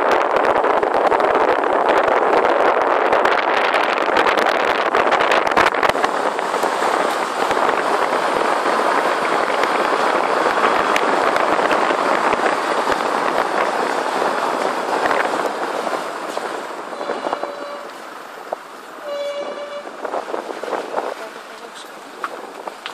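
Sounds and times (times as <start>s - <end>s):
car road and wind noise: 0.0s - 22.9s.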